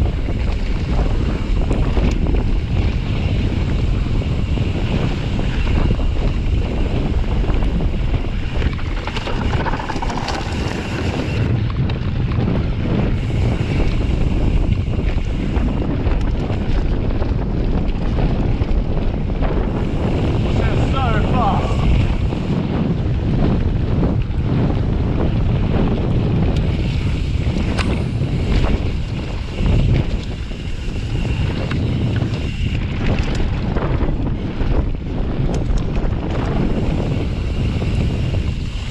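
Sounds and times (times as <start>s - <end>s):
bike rattles and clicks: 0.0s - 38.9s
tyre noise on dirt: 0.0s - 38.9s
wind rushing over microphone: 0.0s - 38.9s.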